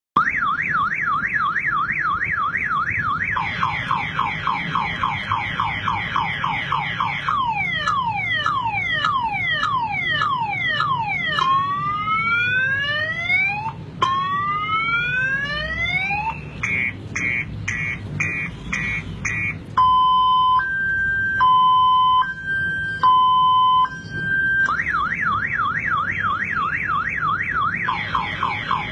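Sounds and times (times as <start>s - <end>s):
car alarm siren: 0.2s - 28.9s.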